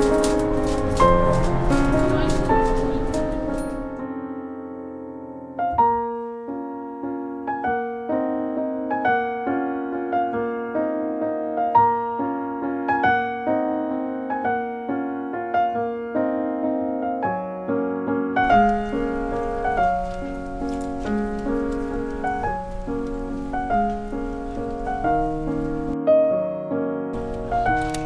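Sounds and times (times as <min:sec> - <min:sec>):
solo piano: 0:00.0 - 0:28.0.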